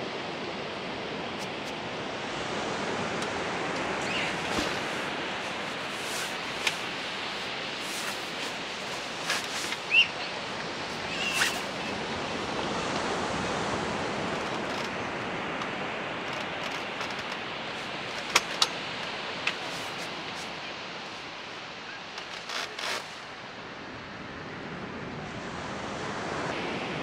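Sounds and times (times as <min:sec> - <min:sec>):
waves washing onto beach: 0:00.0 - 0:27.0.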